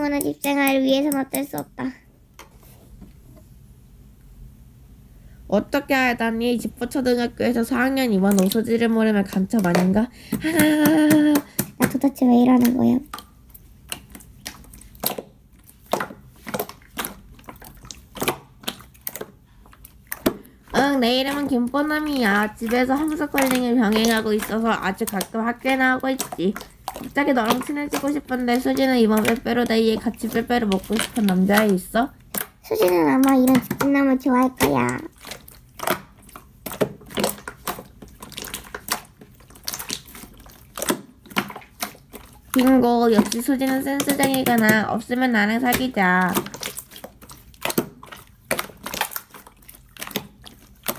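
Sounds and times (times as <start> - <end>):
slime squeezed wet pops: 8.2 - 50.9.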